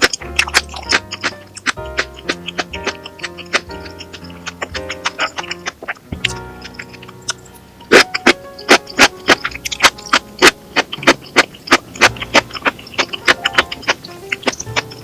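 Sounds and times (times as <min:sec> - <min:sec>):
sharp knocks: 0:00.0 - 0:15.0
soft background music: 0:00.0 - 0:15.0.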